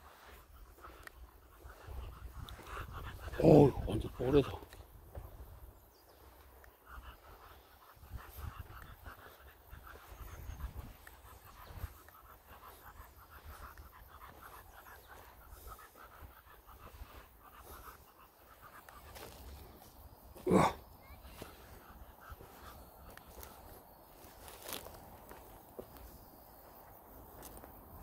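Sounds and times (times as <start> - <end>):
dog panting: 0.0 - 26.6.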